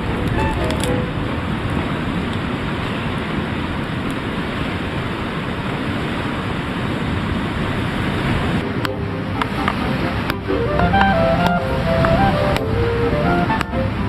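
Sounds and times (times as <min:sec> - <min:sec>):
waves rushing: 0:00.0 - 0:14.0
wind: 0:00.0 - 0:14.0.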